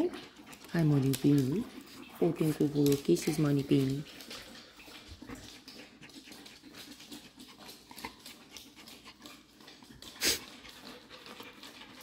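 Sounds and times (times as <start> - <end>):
dogs moving about: 0.0 - 12.0
small clicks and patters: 0.1 - 12.0.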